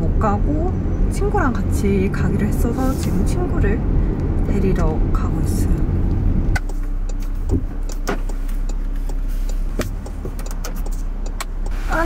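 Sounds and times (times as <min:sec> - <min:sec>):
road and engine rumble inside car: 0:00.0 - 0:12.0.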